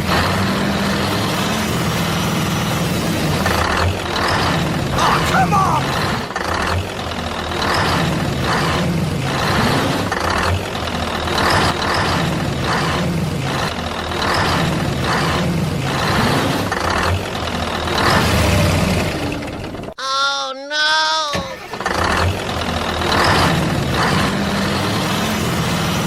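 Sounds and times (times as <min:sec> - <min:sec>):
truck engine running: 0:00.0 - 0:20.0, 0:21.3 - 0:26.0.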